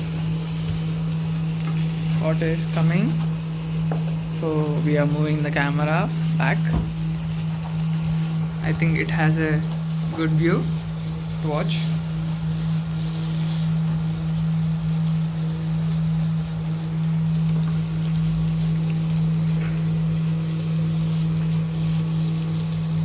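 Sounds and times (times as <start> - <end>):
egg sizzling in a pan: 0.0 - 23.0
induction cooktop hum: 0.0 - 23.0.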